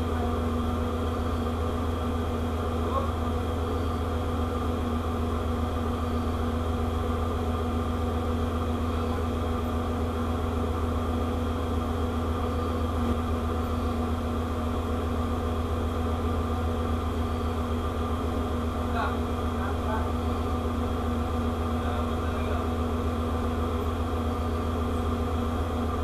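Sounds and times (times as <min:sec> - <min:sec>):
ship machinery drone: 0:00.0 - 0:26.0.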